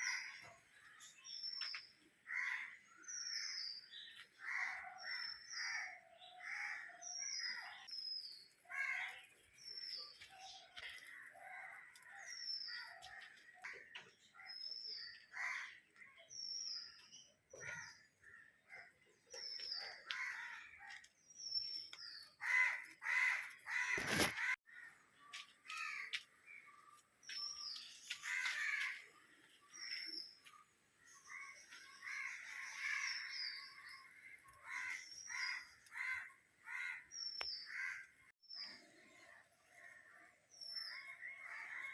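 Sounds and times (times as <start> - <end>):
birds calling: 0.0 - 41.9.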